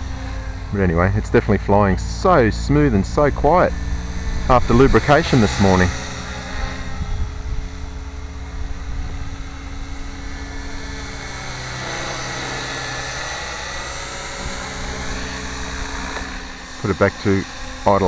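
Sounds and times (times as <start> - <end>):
model helicopter motor and rotors humming: 0.0 - 18.0.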